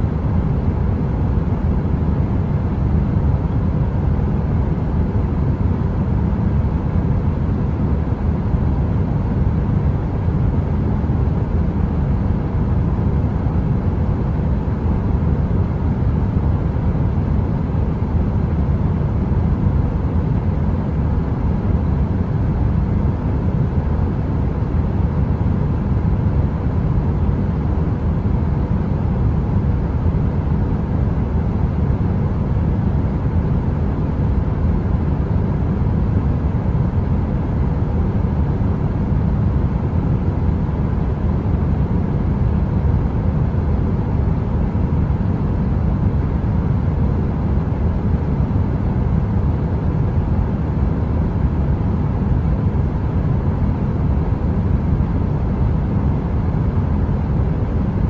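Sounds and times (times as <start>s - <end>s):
faint steady hum: 0.0s - 58.0s
heater air rumble: 0.0s - 58.0s.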